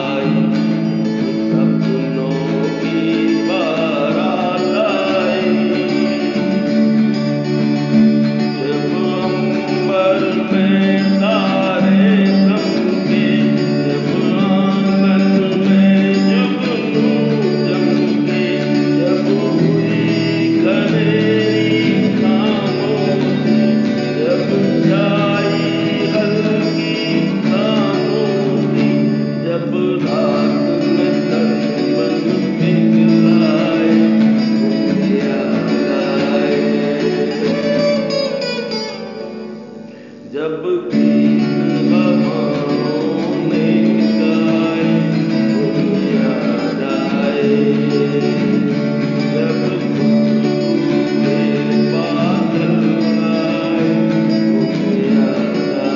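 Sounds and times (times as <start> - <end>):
acoustic guitar strumming: 0.0 - 55.9
man singing: 0.0 - 55.9.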